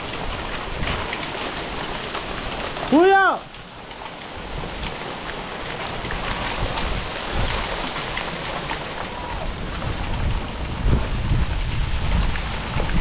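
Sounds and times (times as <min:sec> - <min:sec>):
heavy rain on gravel: 0:00.0 - 0:13.0.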